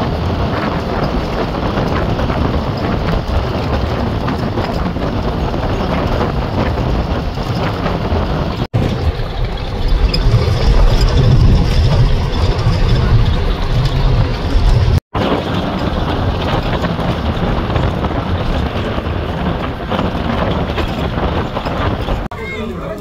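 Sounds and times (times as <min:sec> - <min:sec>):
bus engine and road rumble: 0:00.0 - 0:23.0
wind noise: 0:00.0 - 0:23.0.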